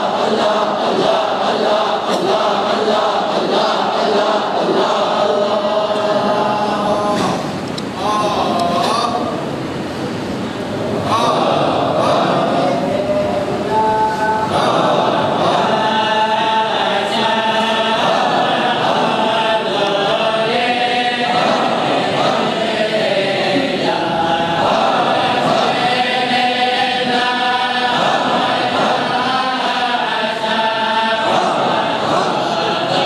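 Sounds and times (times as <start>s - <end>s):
men chanting in unison: 0.0s - 9.5s, 10.7s - 33.0s.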